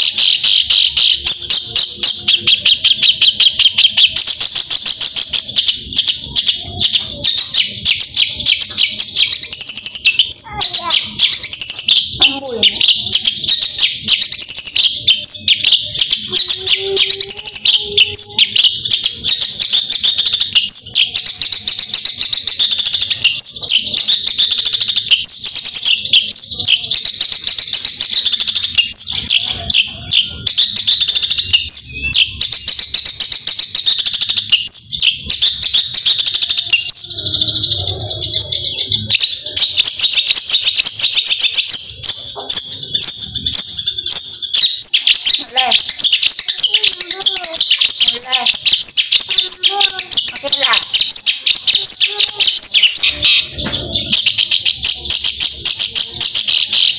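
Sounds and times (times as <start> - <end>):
bird singing chattering notes: 0.0 - 56.9.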